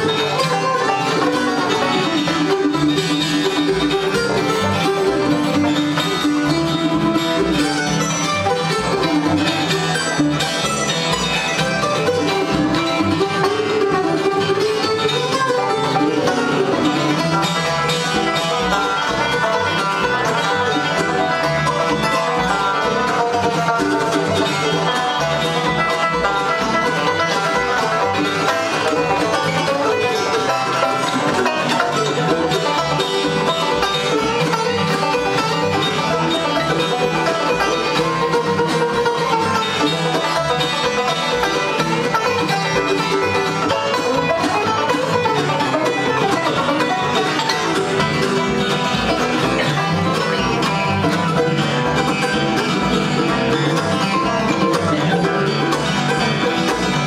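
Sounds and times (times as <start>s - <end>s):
acoustic guitar backing: 0.0s - 57.0s
banjo picking lead: 0.0s - 57.0s.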